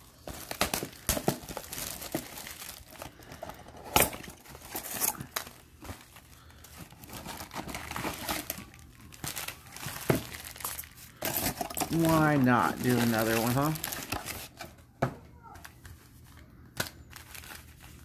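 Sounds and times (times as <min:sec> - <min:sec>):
plastic wrap crinkling and tearing: 0:00.0 - 0:14.8, 0:16.8 - 0:18.0.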